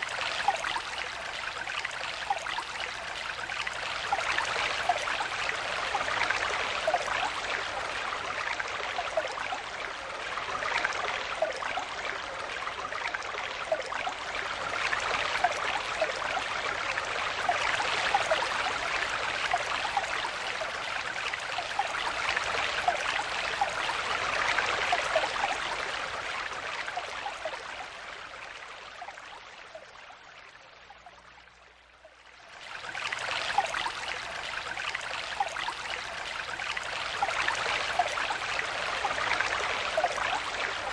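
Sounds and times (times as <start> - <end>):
stream babbling over stones: 0.0 - 30.2, 32.6 - 40.9.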